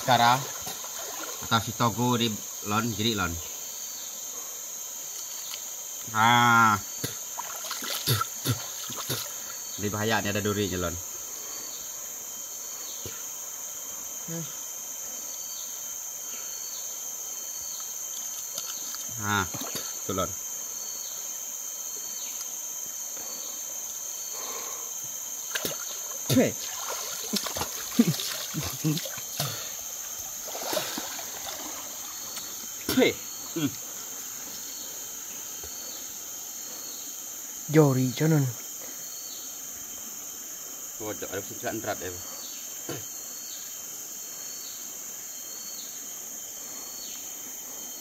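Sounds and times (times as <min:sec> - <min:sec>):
insect chorus drone: 0:00.0 - 0:48.0.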